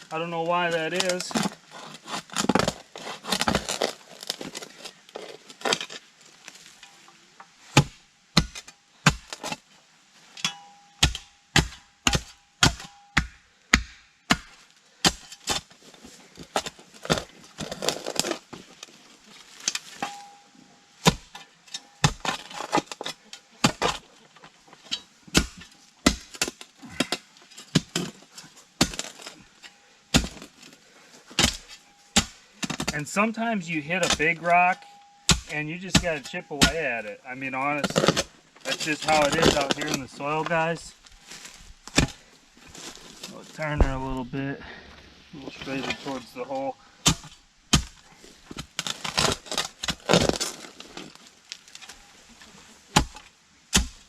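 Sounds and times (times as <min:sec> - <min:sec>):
spade striking rocky soil: 0:00.1 - 0:07.0, 0:07.7 - 0:09.6, 0:10.4 - 0:30.7, 0:31.3 - 0:54.0.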